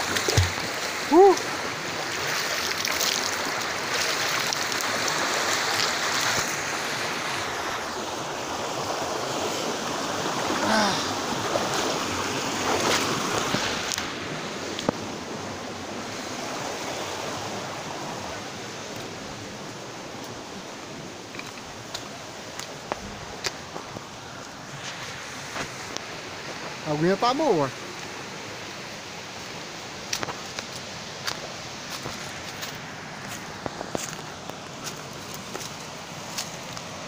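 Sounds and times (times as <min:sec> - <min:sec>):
creek rushing over rocks: 0:00.0 - 0:37.0.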